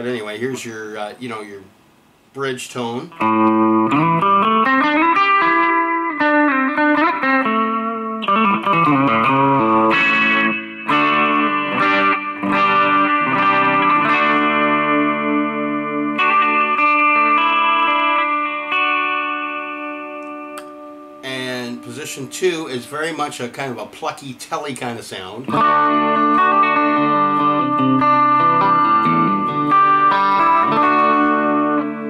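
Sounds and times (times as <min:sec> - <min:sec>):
electric guitar playing: 0:03.1 - 0:23.8, 0:25.5 - 0:32.0.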